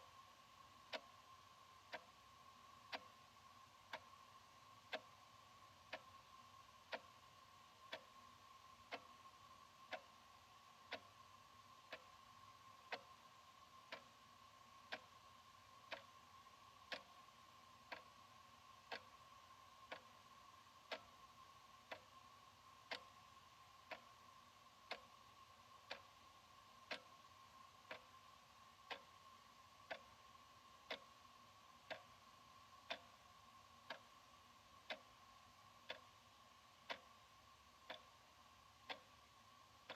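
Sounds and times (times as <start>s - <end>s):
faint steady hum: 0.0s - 39.9s
wall clock ticking: 0.0s - 39.9s.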